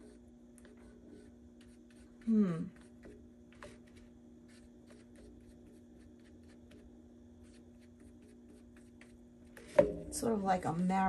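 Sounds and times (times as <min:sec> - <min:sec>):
paintbrush scratching on palette: 0:00.0 - 0:09.6
steady low hum: 0:00.0 - 0:11.0.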